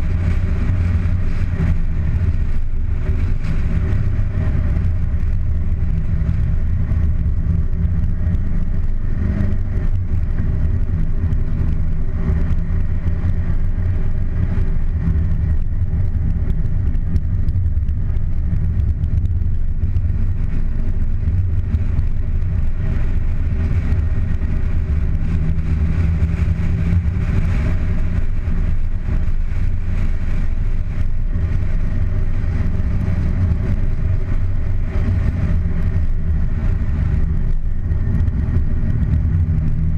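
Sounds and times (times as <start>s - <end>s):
car engine running: 0.0s - 39.9s
wind and road noise: 0.0s - 39.9s.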